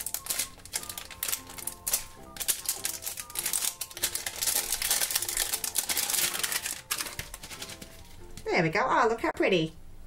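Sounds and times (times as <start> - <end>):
plastic shrink-wrap crinkling: 0.0 - 8.4
background music with simple melody: 0.0 - 9.5.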